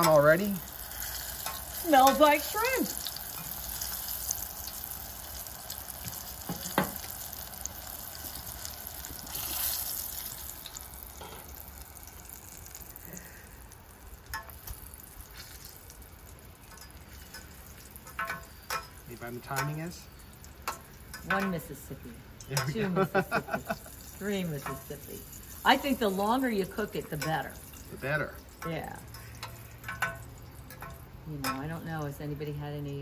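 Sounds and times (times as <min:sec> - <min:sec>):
deep-frying sizzle in hot oil: 0:00.0 - 0:33.0.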